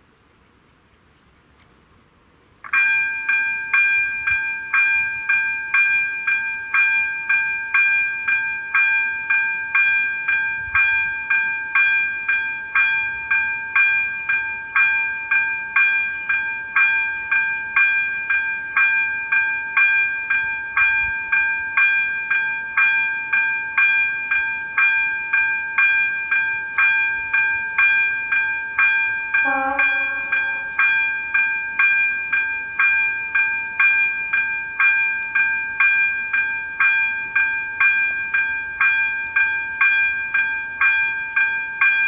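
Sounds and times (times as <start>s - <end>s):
level crossing bell ringing: 2.8s - 42.0s.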